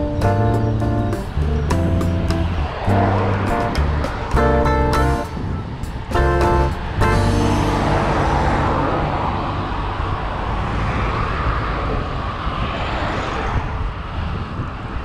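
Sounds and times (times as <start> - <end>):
cars passing: 0.0 - 15.0
wind rushing over microphone: 0.0 - 15.0.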